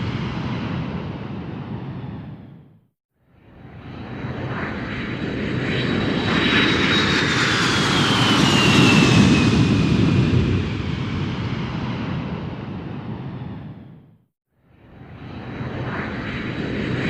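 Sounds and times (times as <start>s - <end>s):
airplane engine flyby: 0.0s - 17.0s.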